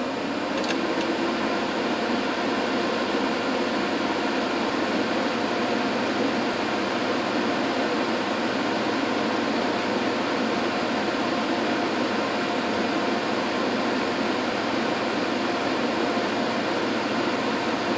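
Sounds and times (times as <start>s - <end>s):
cooling fans whirring: 0.0s - 17.9s.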